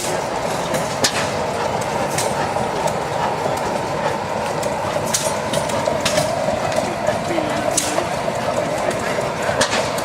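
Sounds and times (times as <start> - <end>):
turbine engine running: 0.0 - 10.0.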